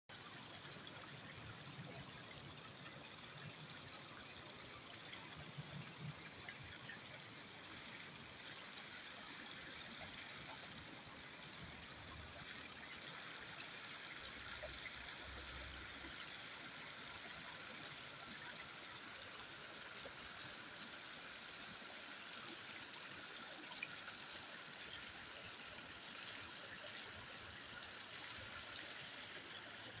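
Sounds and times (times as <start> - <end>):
brook trickling over stones: 0.1 - 30.0.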